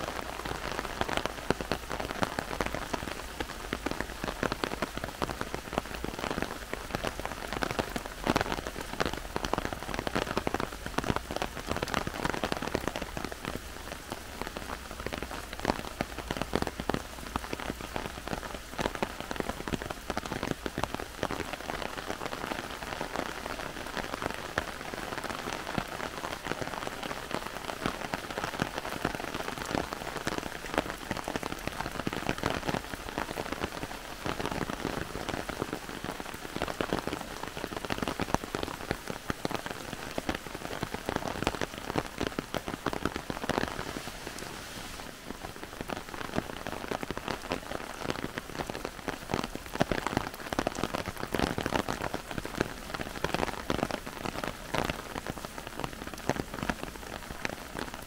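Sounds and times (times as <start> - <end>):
heavy rain in forest: 0.0 - 58.0.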